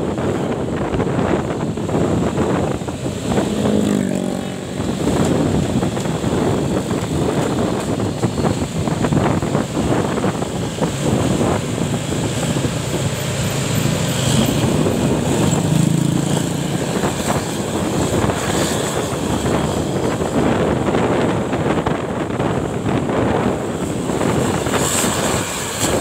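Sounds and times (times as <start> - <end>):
low engine hum: 0.0 - 26.0
motorcycle engine: 0.0 - 26.0
wind buffeting microphone: 0.0 - 26.0.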